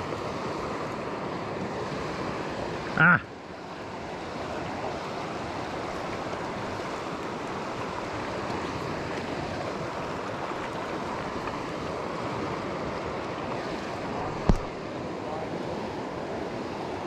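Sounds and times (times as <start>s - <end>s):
river water rushing over stones: 0.0s - 17.0s.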